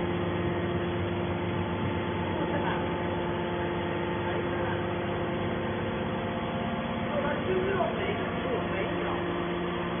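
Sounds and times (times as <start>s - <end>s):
machine hum with held tones: 0.0s - 10.0s.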